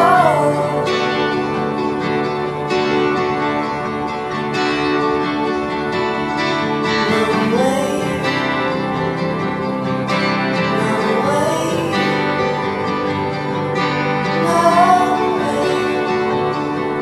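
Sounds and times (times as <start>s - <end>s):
acoustic guitar song: 0.0s - 17.0s.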